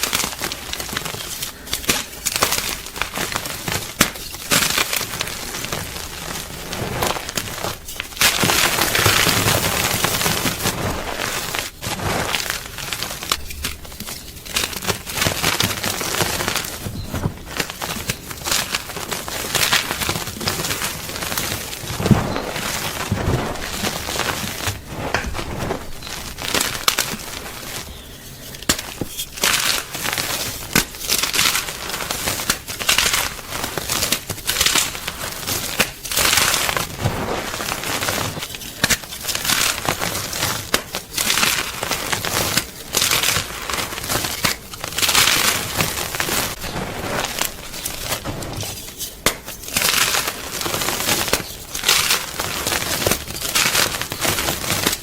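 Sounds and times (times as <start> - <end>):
chalk crunching: 0.2 - 40.6, 41.2 - 55.0.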